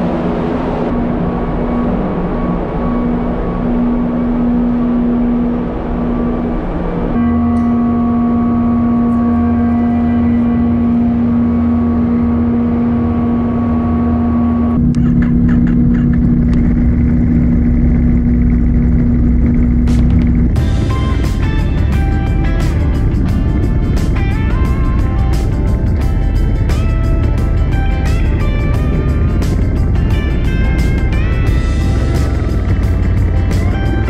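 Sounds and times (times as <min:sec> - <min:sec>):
engine drone: 0:00.0 - 0:34.0.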